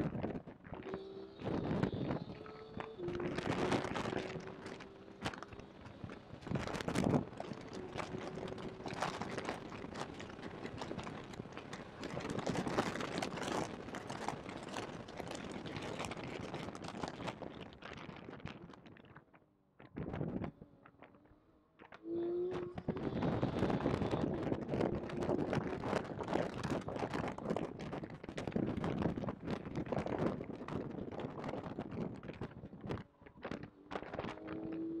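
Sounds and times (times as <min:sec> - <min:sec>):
crackling distorted noise: 0:00.0 - 0:35.0.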